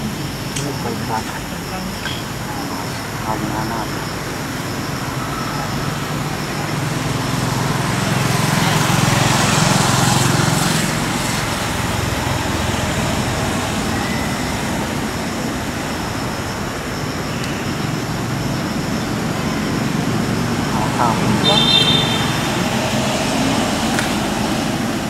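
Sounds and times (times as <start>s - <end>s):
rushing outdoor noise: 0.0s - 25.0s.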